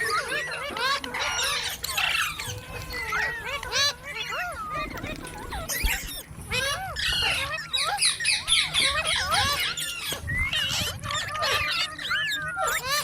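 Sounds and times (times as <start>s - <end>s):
parakeets chattering: 0.0s - 13.0s.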